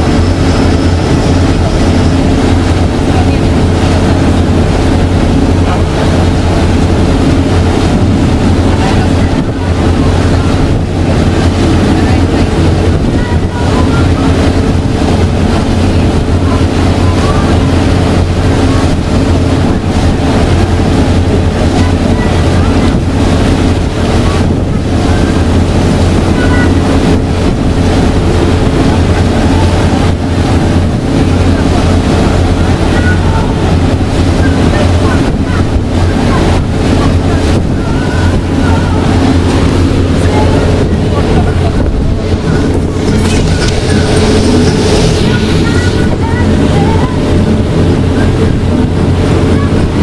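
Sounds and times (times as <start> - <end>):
motorboat engine humming: 0.0 - 50.0
water rushing past hull: 0.0 - 50.0
wind buffeting microphone: 0.0 - 50.0.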